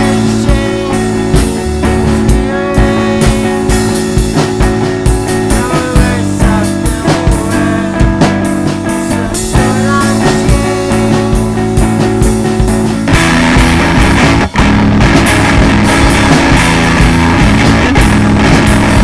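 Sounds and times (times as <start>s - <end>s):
drum kit beat: 0.0s - 19.0s
guitar and bass chords: 0.0s - 19.0s.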